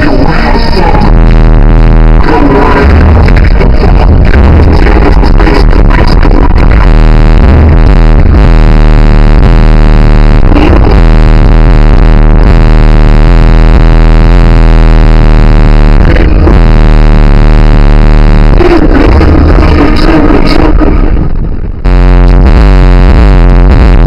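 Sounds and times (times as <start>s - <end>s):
distorted deep bass music: 0.0s - 24.0s.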